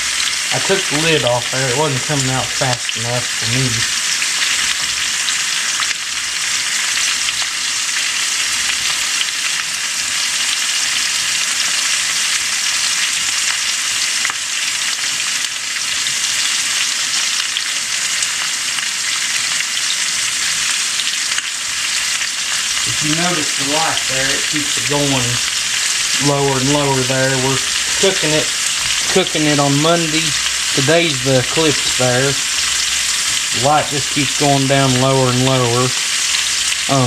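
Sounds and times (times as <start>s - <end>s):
meat sizzling in a hot pan: 0.0s - 37.0s.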